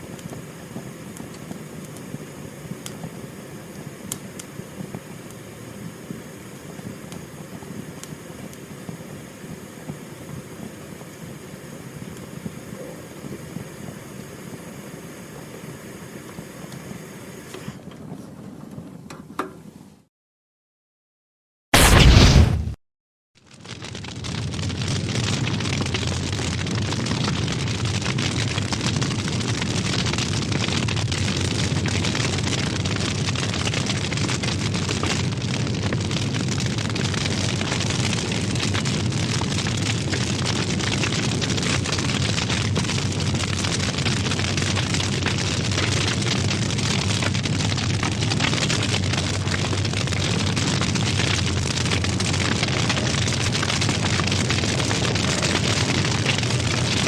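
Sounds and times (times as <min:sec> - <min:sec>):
fire crackling: 0:00.0 - 0:18.8, 0:21.8 - 0:22.8, 0:23.4 - 0:57.0
low rumble of fire: 0:00.0 - 0:19.8, 0:21.8 - 0:22.8, 0:23.4 - 0:57.0.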